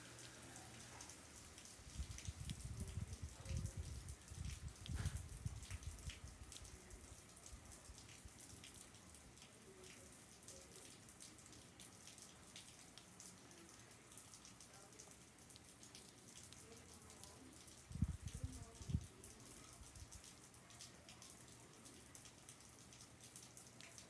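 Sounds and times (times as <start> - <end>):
drips and patters: 0.0 - 24.0
faint rain hissing: 0.0 - 24.0.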